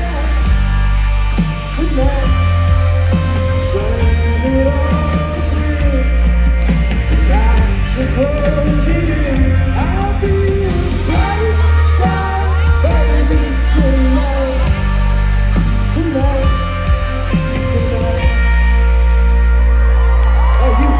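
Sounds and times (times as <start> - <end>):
person singing: 0.0 - 19.1
heavy booming bass: 0.0 - 20.9
live band playing: 0.0 - 20.9.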